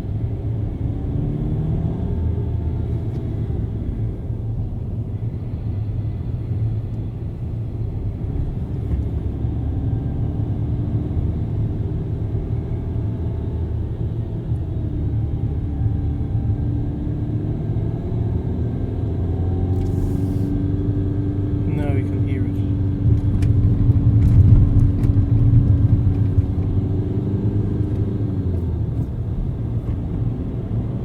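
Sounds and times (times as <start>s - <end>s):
car clutch rumbling and whirring: 0.0s - 31.0s.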